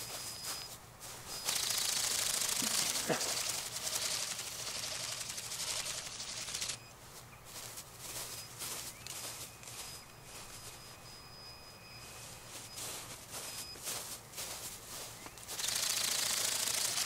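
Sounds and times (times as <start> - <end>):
flapping-wing drone wings beating: 0.0 - 10.9, 12.0 - 17.0.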